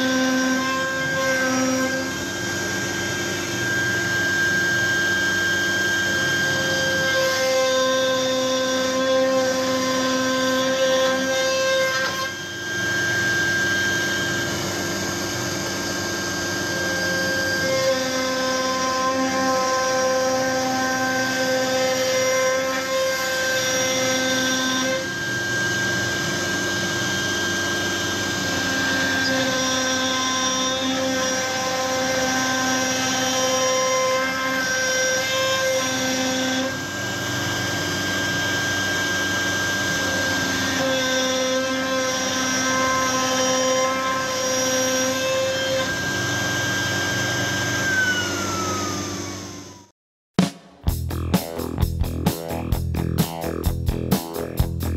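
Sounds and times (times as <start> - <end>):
router spindle whine with cutting noise: 0.0 - 49.9.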